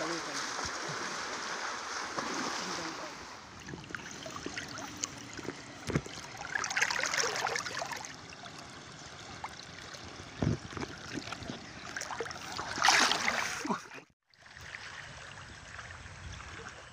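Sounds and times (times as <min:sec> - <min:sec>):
river current gurgling: 0:00.0 - 0:16.9.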